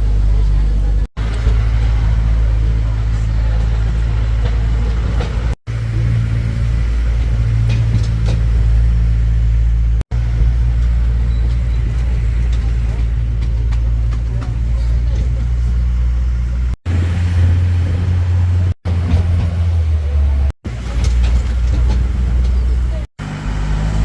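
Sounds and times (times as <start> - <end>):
train engine rumble: 0.0 - 24.0.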